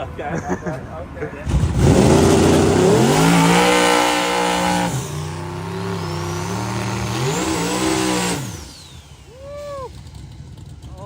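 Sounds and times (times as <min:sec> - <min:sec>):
drag racing engine at full throttle: 0:01.4 - 0:11.0.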